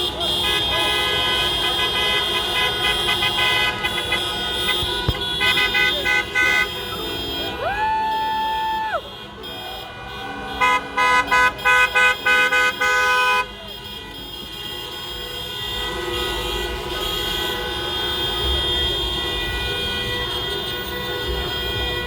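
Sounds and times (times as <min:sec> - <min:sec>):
car horns honking: 0:00.0 - 0:22.0
street hubbub: 0:00.0 - 0:22.0.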